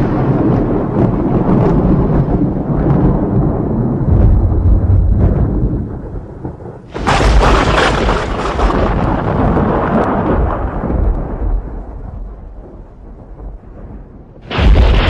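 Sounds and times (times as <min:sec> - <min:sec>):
sharp thunderclap crack: 0:00.0 - 0:15.0
thunder rumble: 0:00.0 - 0:15.0.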